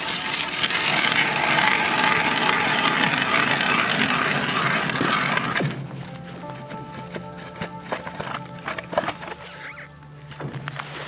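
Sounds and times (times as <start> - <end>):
ice auger crunching through ice: 0.0 - 11.0.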